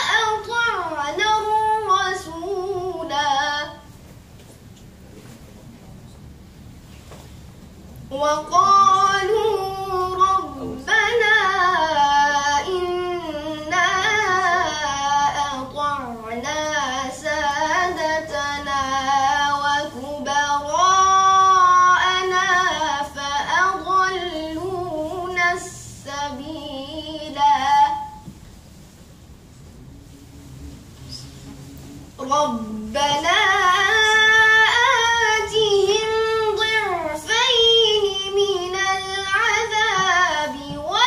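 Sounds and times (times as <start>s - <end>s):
boy reciting melodically: 0.0s - 4.0s, 8.1s - 28.4s, 30.0s - 41.0s.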